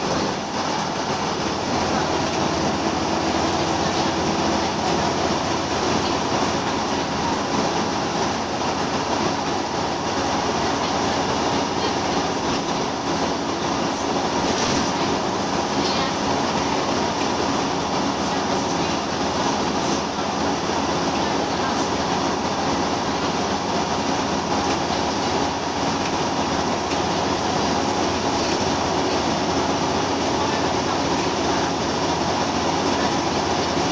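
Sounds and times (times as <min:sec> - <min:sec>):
bus body rattle: 0:00.0 - 0:33.9
diesel bus engine: 0:00.0 - 0:33.9
road noise: 0:00.0 - 0:33.9.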